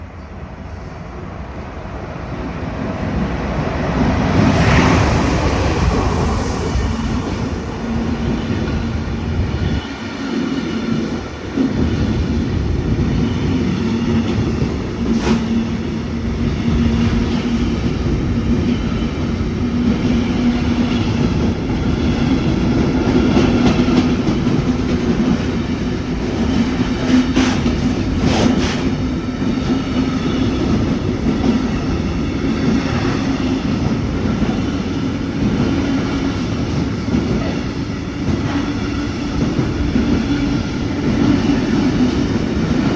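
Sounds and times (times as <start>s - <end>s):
freight train rumbling past: 0.0s - 42.9s.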